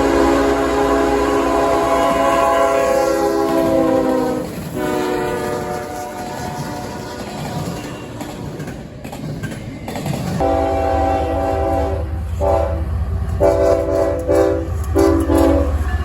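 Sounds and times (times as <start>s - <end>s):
locomotive air horn blasts: 0.0s - 7.8s, 10.4s - 16.0s
low rumble of train: 0.0s - 16.0s.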